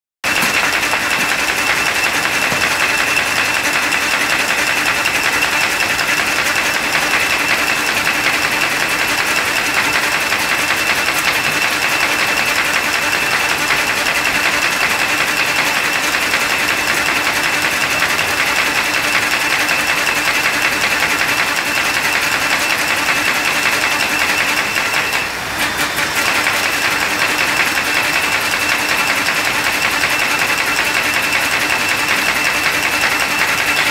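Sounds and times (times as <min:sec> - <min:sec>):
paper folding machine clatter: 0:00.2 - 0:33.9.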